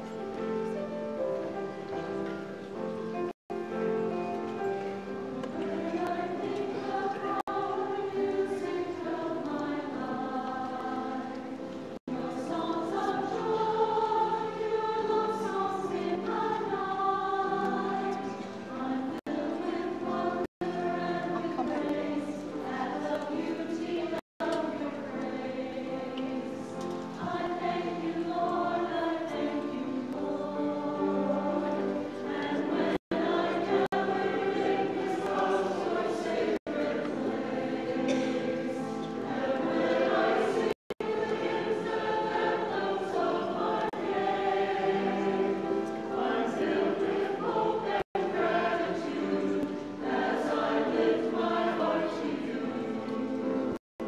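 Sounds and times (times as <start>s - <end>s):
mixed choir singing: 0.0s - 53.8s.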